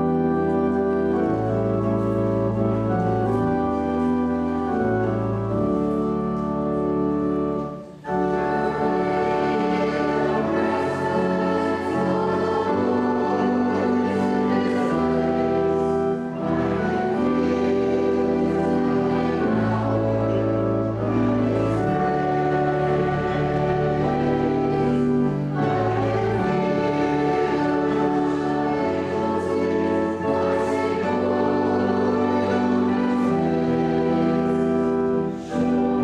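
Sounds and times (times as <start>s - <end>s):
church organ chords: 0.0s - 36.0s.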